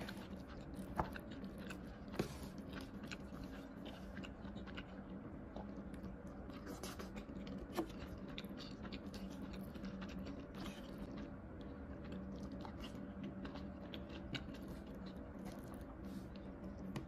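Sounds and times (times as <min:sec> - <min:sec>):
close-up chewing: 0:00.0 - 0:17.0.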